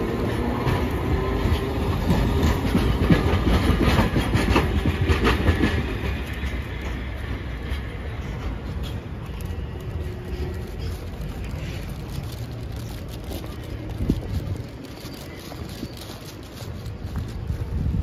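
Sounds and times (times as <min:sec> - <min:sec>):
streetcar rumble: 0:00.0 - 0:18.0
wheels clicking on rails: 0:00.0 - 0:18.0.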